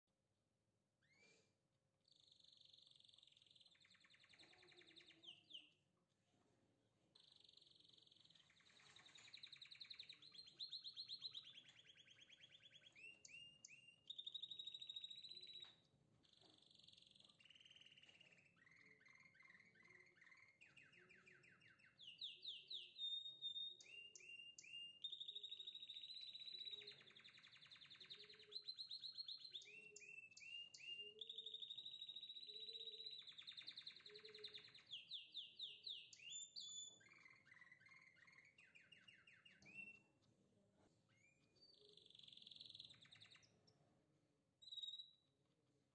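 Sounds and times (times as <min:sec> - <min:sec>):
songbird chirping and trilling: 0:01.0 - 0:45.6.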